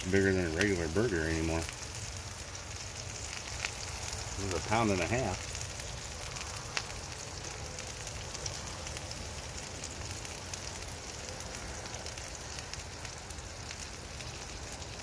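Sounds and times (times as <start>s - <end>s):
meat sizzling on a griddle: 0.0s - 15.0s.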